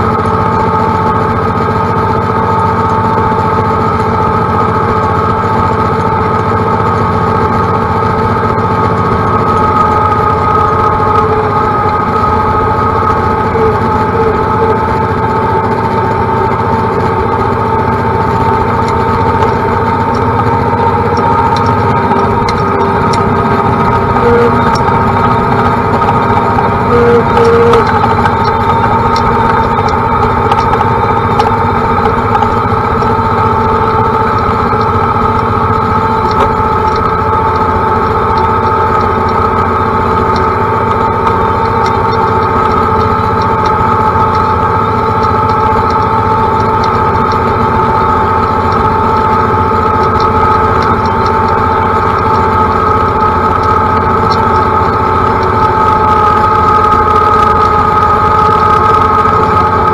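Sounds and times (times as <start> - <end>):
steady high whine: 0.0 - 59.9
tractor diesel engine running: 0.0 - 59.9.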